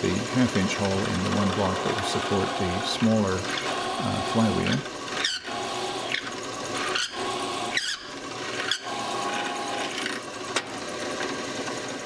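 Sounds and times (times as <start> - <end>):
drill press boring into wood: 0.0 - 12.0.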